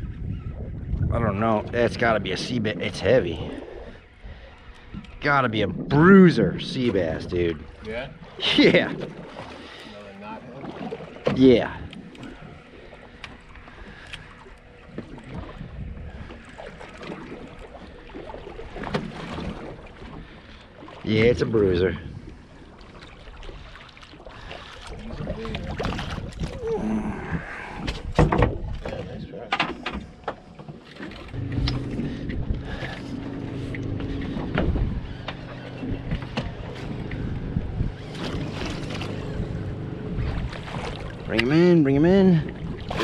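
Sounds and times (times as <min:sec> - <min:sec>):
water lapping against boat hull: 0:00.0 - 0:43.0
wind: 0:00.0 - 0:43.0.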